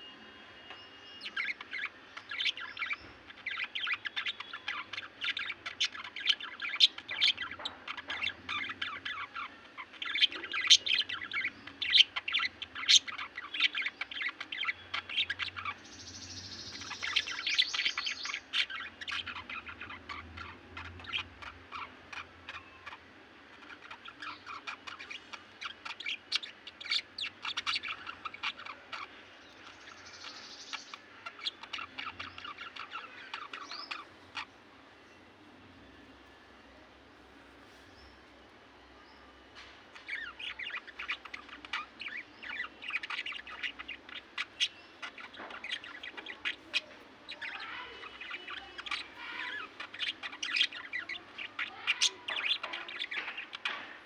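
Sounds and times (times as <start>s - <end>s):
parrots chattering: 1.2s - 36.4s, 39.8s - 54.0s.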